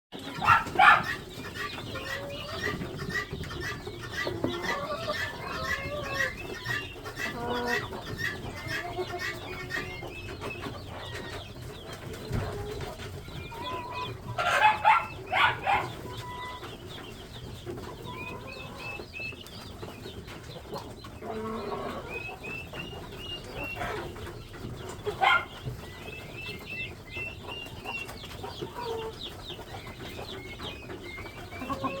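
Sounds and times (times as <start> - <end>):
chickens peeping and chirping: 0.1 - 32.0.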